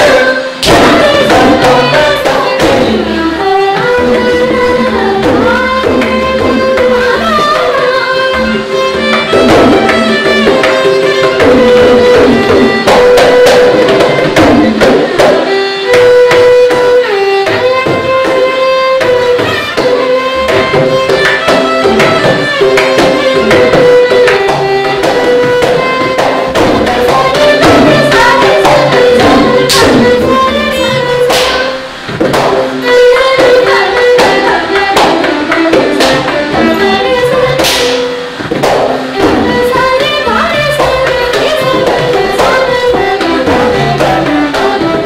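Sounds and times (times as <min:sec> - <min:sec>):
drum strokes: 0:00.0 - 0:45.0
violin melody: 0:00.0 - 0:45.0.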